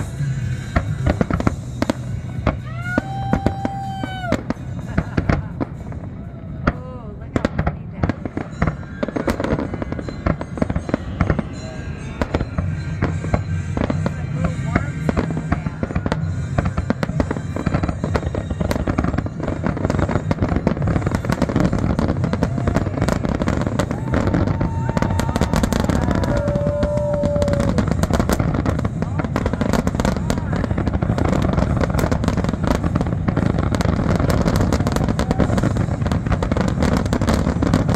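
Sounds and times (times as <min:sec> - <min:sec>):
fireworks crackling: 0:00.0 - 0:37.9
firework shells bursting: 0:06.7 - 0:37.9.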